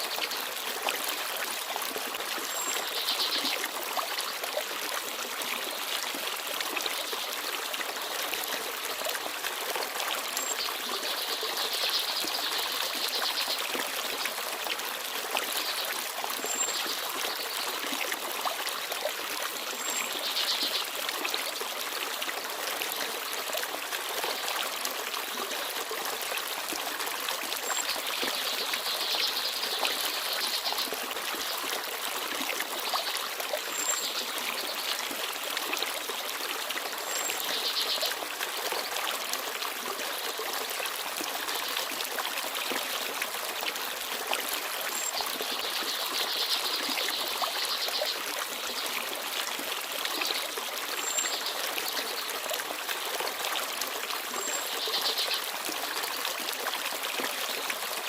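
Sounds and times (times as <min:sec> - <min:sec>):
stream babbling and trickling: 0:00.0 - 0:58.0.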